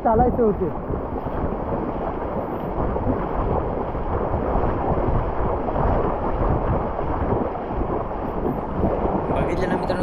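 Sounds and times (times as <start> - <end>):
wind rumbling on microphone: 0.0 - 10.0
surf splashing around legs: 0.7 - 10.0.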